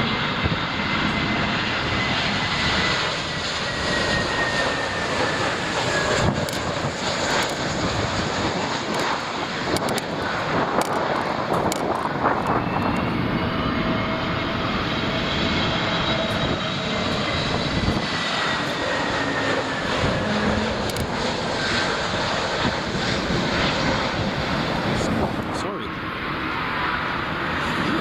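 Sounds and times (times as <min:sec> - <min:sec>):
high jet whine: 0:00.0 - 0:28.0
jet engines roaring: 0:00.0 - 0:28.0.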